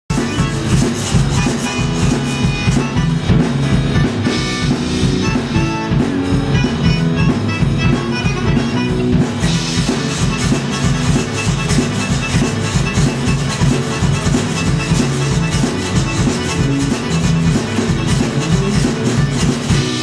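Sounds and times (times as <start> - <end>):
rubboards scraping: 0.1 - 6.0, 6.8 - 20.0
accordion: 0.1 - 20.0
drum kit: 0.1 - 20.0
electric bass: 0.1 - 20.0.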